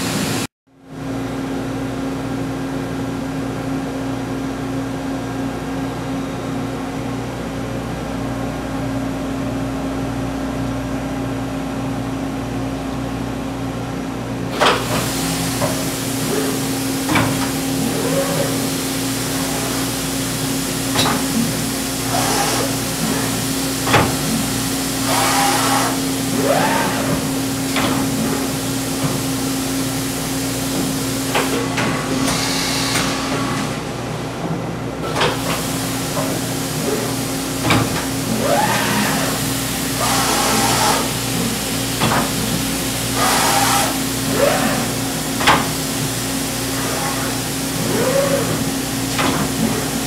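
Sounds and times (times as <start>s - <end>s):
steady machine hum: 0.0s - 50.0s.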